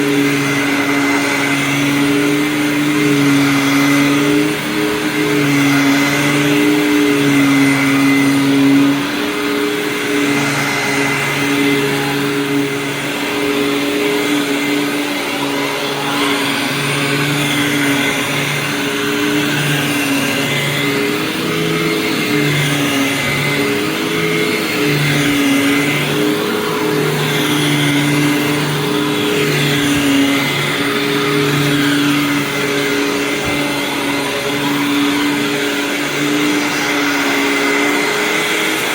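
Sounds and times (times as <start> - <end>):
vacuum cleaner motor hum: 0.0 - 38.9.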